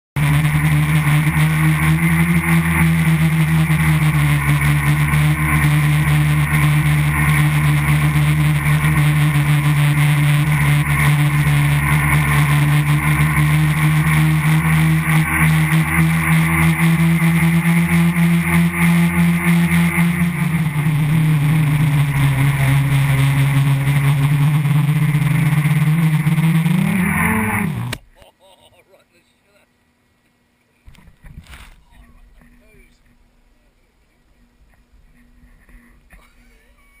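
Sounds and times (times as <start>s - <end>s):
drone motors humming: 0.2s - 28.3s, 30.9s - 37.0s.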